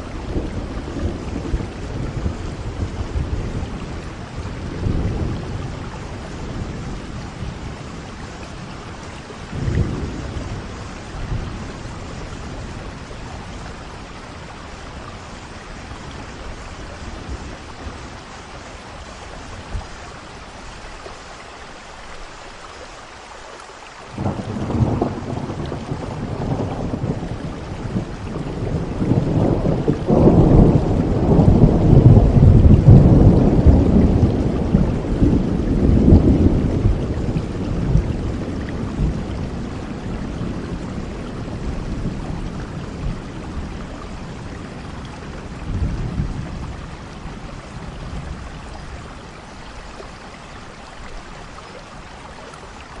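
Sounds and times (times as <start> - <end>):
thunder rumbling: 0.0 - 20.8, 24.1 - 49.6
steady rainfall: 0.0 - 53.0.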